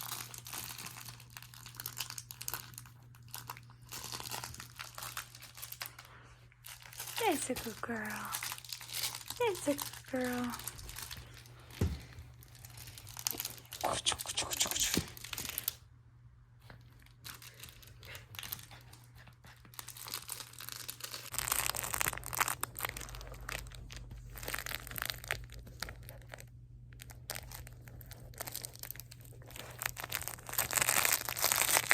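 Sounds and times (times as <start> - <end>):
dog chewing crinkly toy: 0.0 - 15.8, 16.6 - 31.9.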